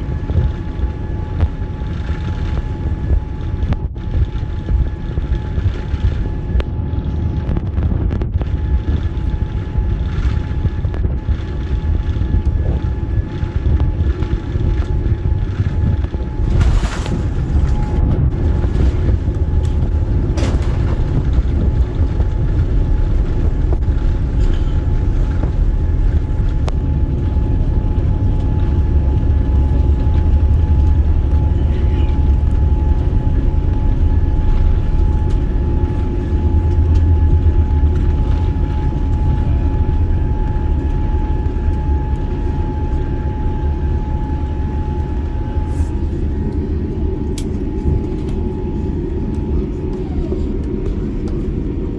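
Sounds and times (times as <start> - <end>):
airliner cabin rumble: 0.0 - 51.9
faint steady whine: 0.0 - 51.9.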